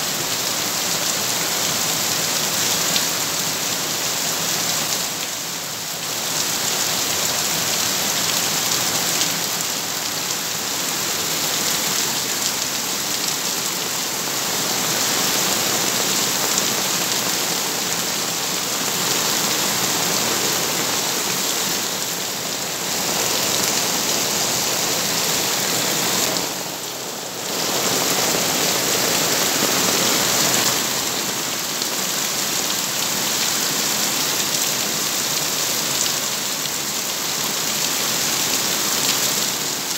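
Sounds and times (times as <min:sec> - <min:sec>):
heavy rain on roof: 0:00.0 - 0:39.9.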